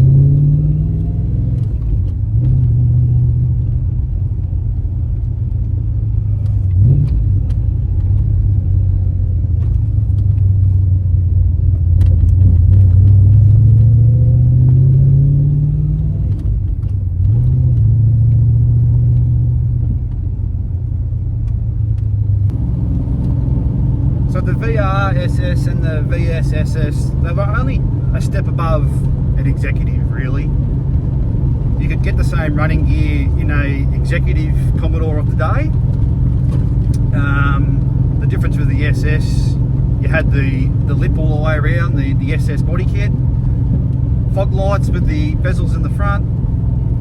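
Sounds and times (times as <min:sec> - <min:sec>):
car engine revving and shifting: 0:00.0 - 0:04.1, 0:06.1 - 0:10.8, 0:11.7 - 0:20.3, 0:21.4 - 0:47.0.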